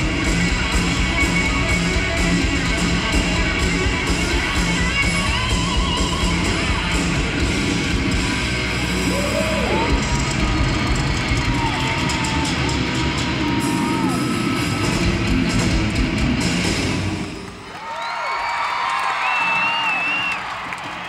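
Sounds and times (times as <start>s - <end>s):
hard rock band playing live: 0.0s - 17.6s.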